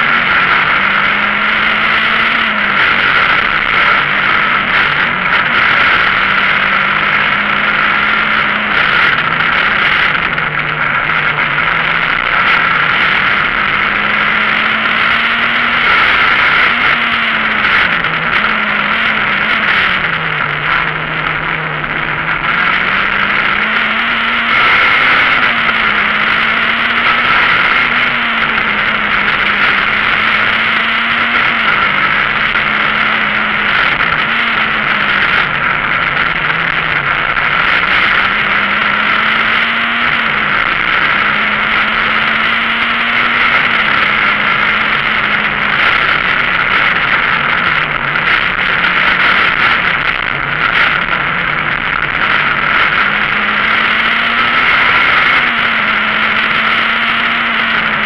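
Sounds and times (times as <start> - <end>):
car engine revving: 0.0 - 58.0
road noise: 0.0 - 58.0.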